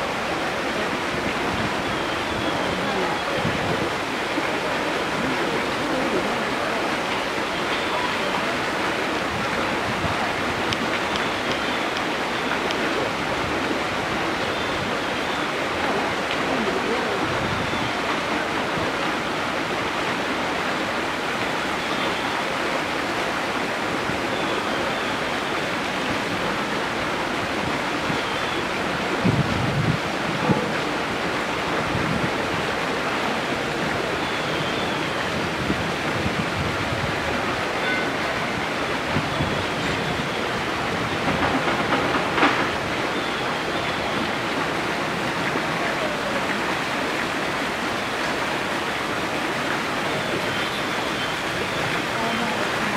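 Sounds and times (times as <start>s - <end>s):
running water rushing: 0.0s - 52.9s.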